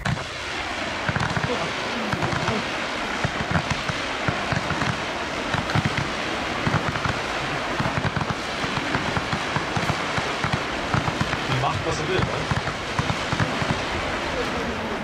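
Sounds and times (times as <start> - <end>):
fireworks crackling and popping: 0.0 - 15.0.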